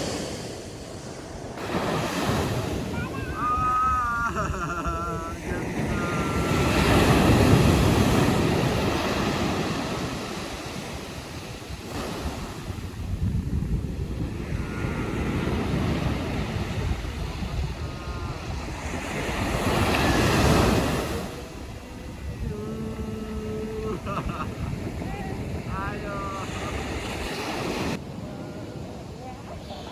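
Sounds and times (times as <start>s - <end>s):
sea waves breaking on beach: 0.0s - 29.9s
wind buffeting microphone: 0.0s - 29.9s.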